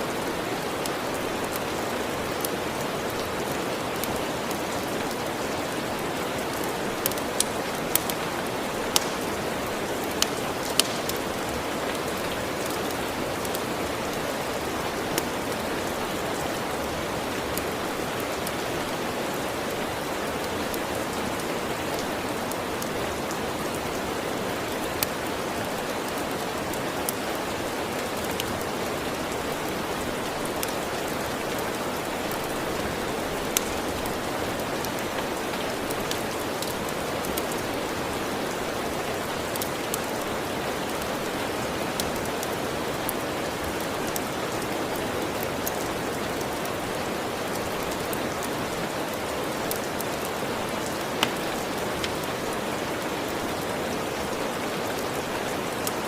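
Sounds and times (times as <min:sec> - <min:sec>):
rain falling: 0:00.0 - 0:56.0
wood fire crackling: 0:00.0 - 0:56.0.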